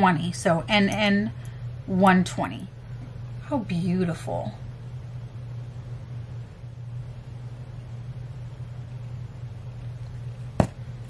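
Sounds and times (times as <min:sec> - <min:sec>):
low room hum with hiss: 0:00.0 - 0:11.0.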